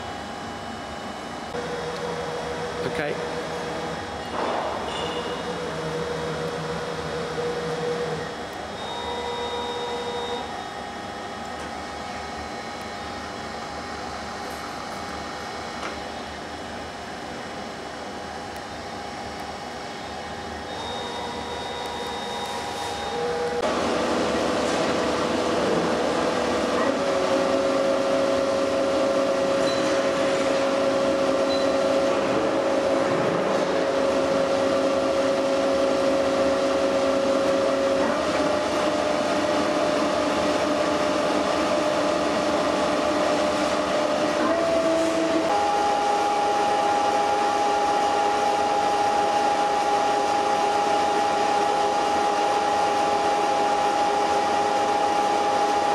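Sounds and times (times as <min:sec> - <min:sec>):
lathe mechanical whine: 0:00.0 - 0:55.9
machine hum: 0:00.0 - 0:55.9.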